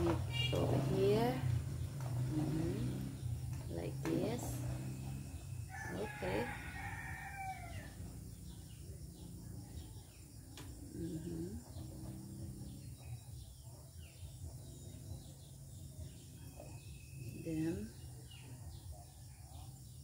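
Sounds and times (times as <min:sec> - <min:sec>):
low background hum: 0:00.0 - 0:19.1
small birds chirping: 0:00.0 - 0:20.0.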